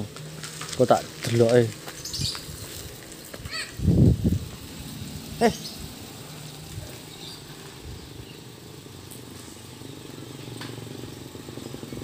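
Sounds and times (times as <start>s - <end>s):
truck engine humming: 0.0s - 12.0s
high insect chirr: 0.3s - 12.0s.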